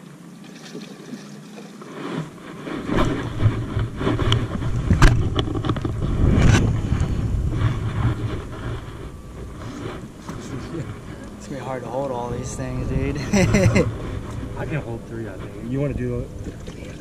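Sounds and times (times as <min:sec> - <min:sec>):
wind noise on microphone: 0:01.8 - 0:17.0.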